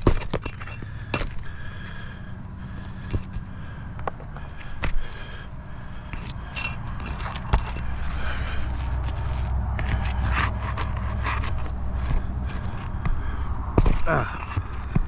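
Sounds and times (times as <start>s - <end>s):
low steady rumble: 0.0s - 15.0s
tool scraping under shingles: 0.0s - 15.0s.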